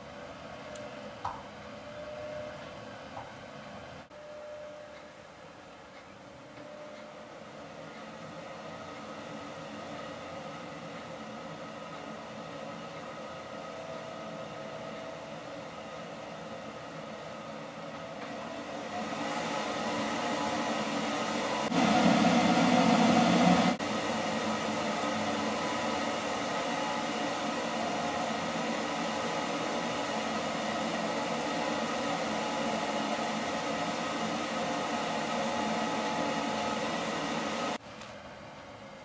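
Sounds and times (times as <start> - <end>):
blower whining tones: 6.2 - 37.8
blower rushing air: 6.4 - 37.9.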